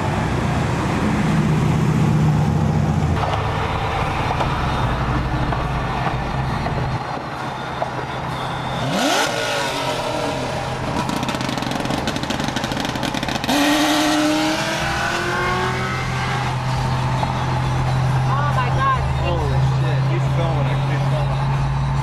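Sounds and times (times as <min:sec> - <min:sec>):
car engines accelerating: 0:00.0 - 0:22.0.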